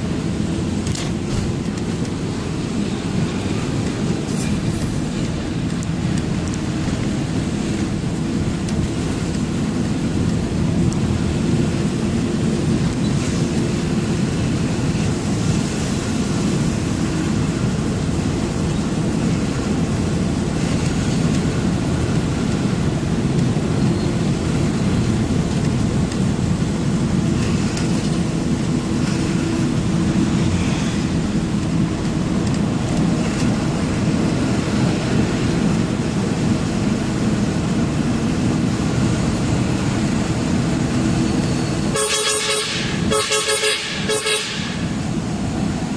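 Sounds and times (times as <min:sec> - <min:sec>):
road and wind noise: 0:00.0 - 0:45.9
truck engine drone: 0:00.0 - 0:45.9.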